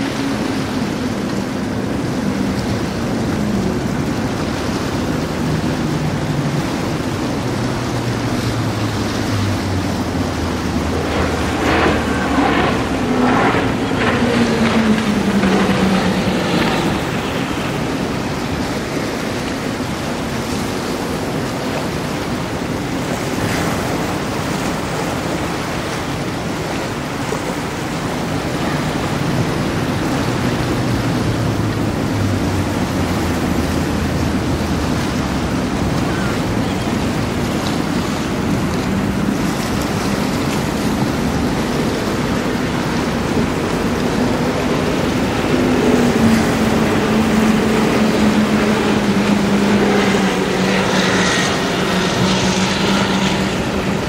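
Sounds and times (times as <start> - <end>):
powerboat engine passing: 0.0 - 54.0
rushing water and spray: 0.0 - 54.0.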